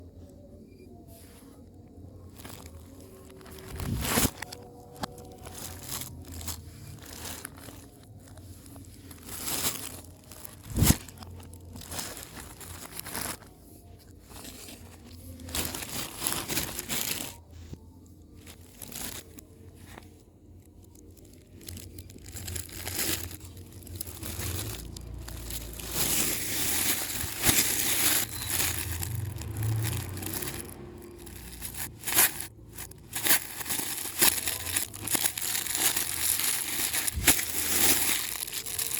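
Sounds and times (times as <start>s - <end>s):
wrapping crinkling and tearing: 1.1s - 38.9s.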